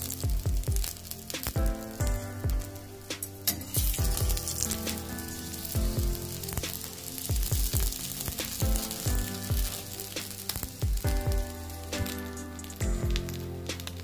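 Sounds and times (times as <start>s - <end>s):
flatbread sizzling in oil: 0.0s - 14.0s
music with deep booming beat: 0.0s - 14.0s.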